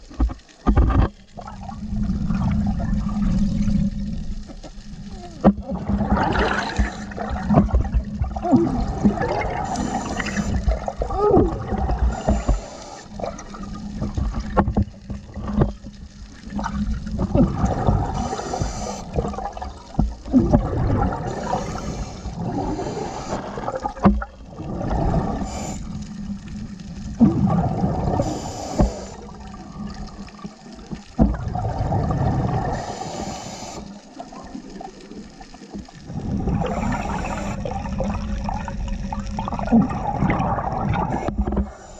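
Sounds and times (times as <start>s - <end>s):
low underwater rumble: 0.0s - 41.8s
underwater bubbles gurgling: 0.0s - 41.9s.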